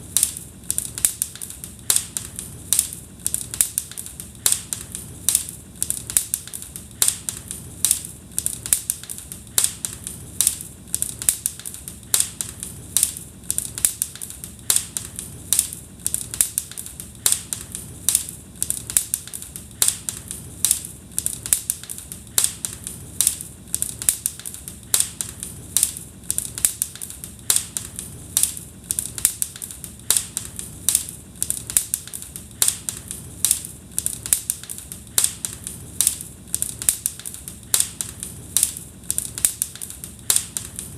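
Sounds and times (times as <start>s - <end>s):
fire crackling and popping: 0.0s - 40.9s
low fire hiss: 0.0s - 40.9s.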